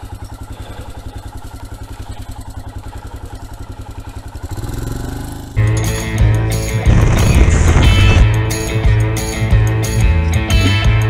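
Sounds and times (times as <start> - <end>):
motorcycle engine thumping: 0.0 - 9.0.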